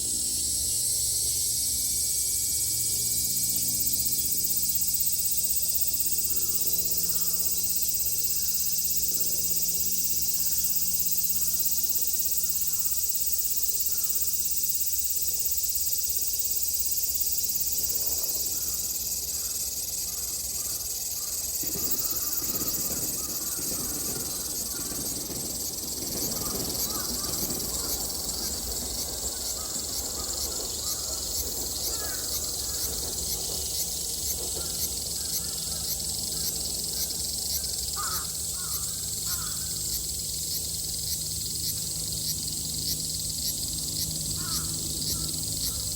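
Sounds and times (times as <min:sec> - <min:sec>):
cicadas buzzing in chorus: 0:00.0 - 0:45.9.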